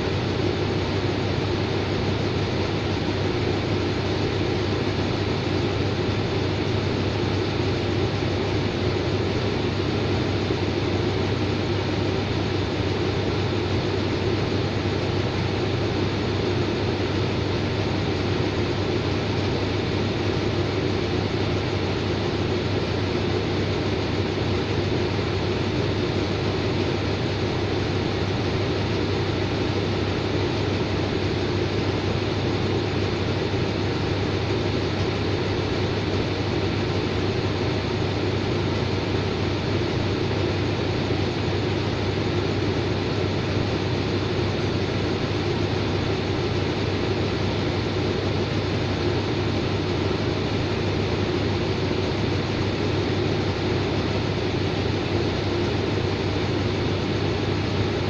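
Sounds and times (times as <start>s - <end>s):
diesel locomotive idling: 0.0s - 58.0s.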